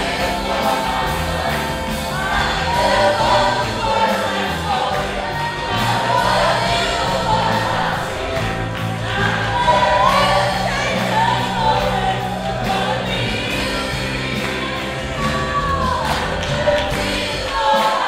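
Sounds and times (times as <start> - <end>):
church choir singing gospel: 0.0 - 18.0
low musical accompaniment: 0.0 - 18.0.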